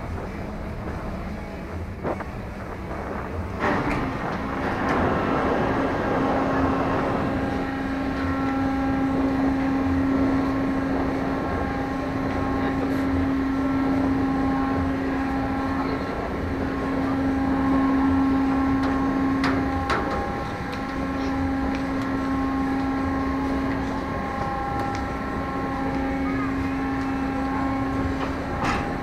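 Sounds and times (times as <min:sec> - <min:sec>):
constant hum: 0:00.0 - 0:29.0
ship engines droning: 0:00.0 - 0:29.0.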